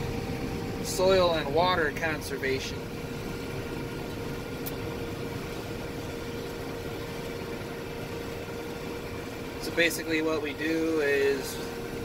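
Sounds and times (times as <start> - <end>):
combine harvester drone: 0.0 - 12.0
steady high hum: 0.0 - 12.0.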